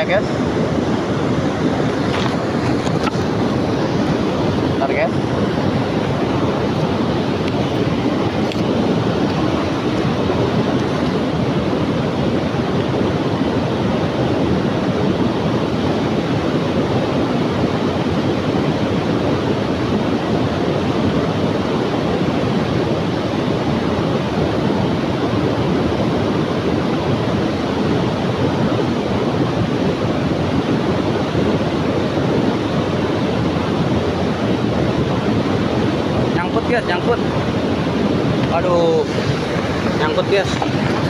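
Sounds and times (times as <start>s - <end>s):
river current rushing: 0.0s - 41.0s.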